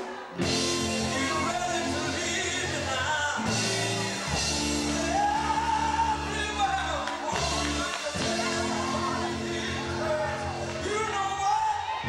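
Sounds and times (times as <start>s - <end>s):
band playing: 0.0s - 12.0s
male vocal group singing: 0.5s - 12.0s.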